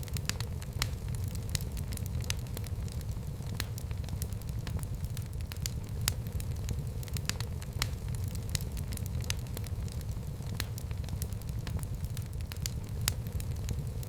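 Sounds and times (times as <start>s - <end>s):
fire crackling and popping: 0.0s - 14.0s
flames rumbling: 0.0s - 14.0s.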